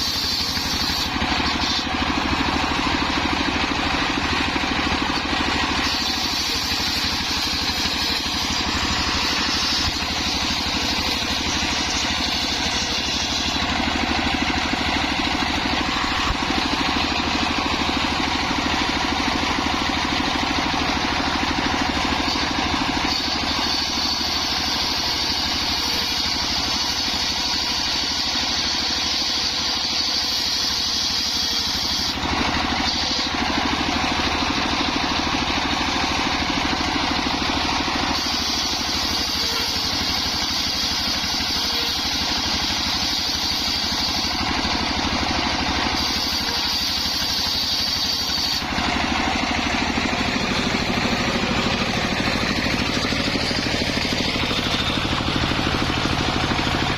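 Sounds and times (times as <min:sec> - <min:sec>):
circular saw engine running: 0:00.0 - 0:56.9
saw blade cutting wood hiss: 0:00.0 - 0:56.9.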